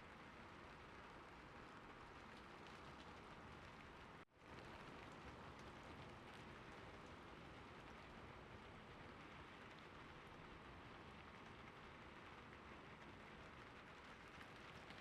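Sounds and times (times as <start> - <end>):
faint gentle rain: 0.0 - 15.0.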